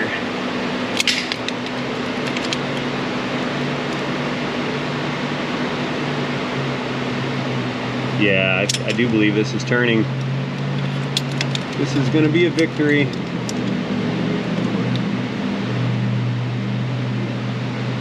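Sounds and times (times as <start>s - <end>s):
machine fan hum and hiss: 0.0s - 18.0s.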